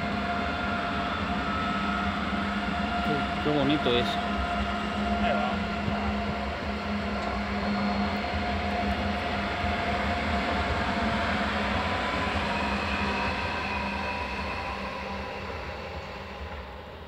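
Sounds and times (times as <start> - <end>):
high-speed train passing: 0.0 - 17.0
train hum tones: 0.0 - 17.0.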